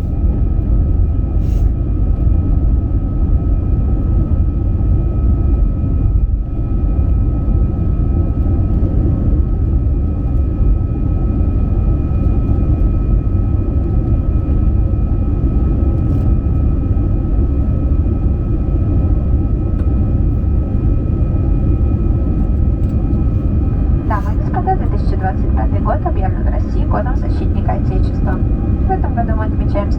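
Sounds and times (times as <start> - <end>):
high engine whine: 0.0 - 29.9
jet engine deep rumble: 0.0 - 29.9.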